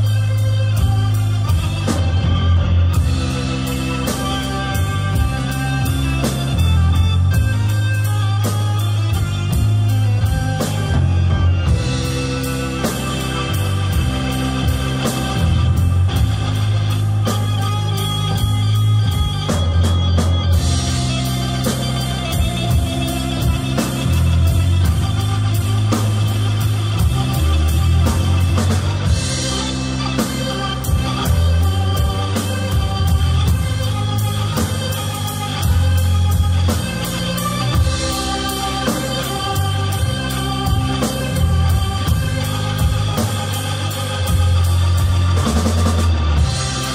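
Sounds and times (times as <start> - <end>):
deep sustained bass notes: 0.0 - 46.9
rock music with guitar and drums: 0.0 - 46.9.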